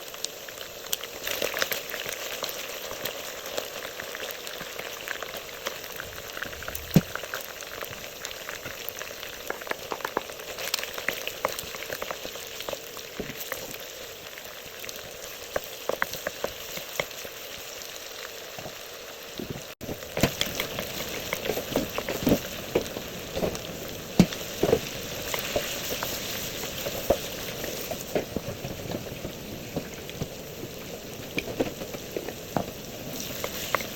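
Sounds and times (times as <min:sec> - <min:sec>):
chicken frying in hot oil: 0:00.0 - 0:33.9.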